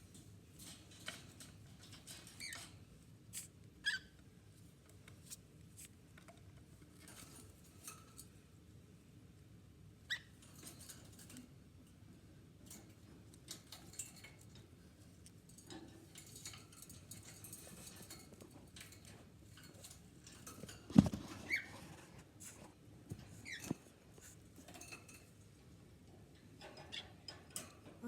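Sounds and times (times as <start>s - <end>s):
birds scratching and tapping: 0.1s - 8.4s, 10.2s - 12.0s, 12.6s - 28.0s.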